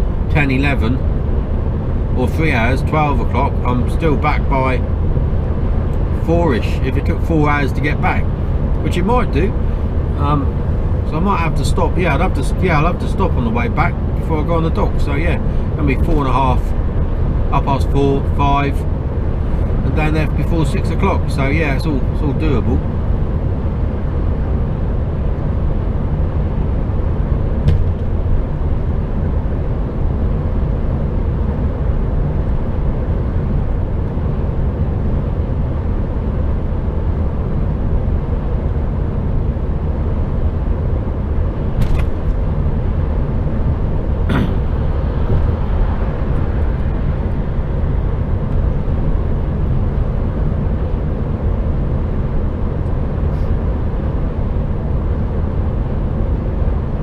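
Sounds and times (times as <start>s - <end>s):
truck engine and road rumble: 0.0s - 57.0s.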